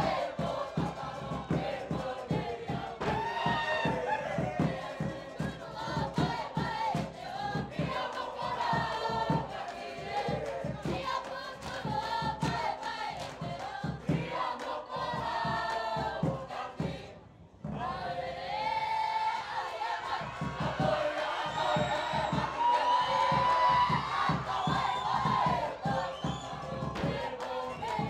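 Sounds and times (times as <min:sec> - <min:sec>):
quick drum beat: 0:00.0 - 0:17.0, 0:20.1 - 0:28.0
group of voices singing: 0:00.0 - 0:28.0.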